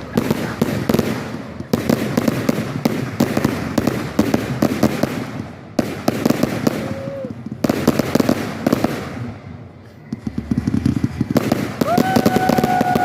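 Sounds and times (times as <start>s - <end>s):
fireworks bangs and pops: 0.0s - 13.0s
fireworks crackle: 0.0s - 13.0s.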